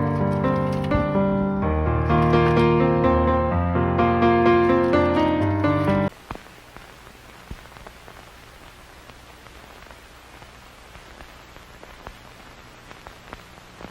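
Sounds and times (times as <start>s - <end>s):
faint steady hiss: 0.0s - 13.9s.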